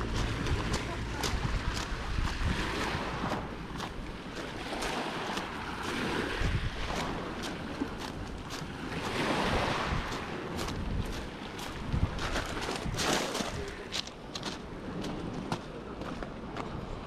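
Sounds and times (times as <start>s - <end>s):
waves washing onto pebble beach: 0.0s - 15.2s
wind buffeting microphone: 0.0s - 17.0s.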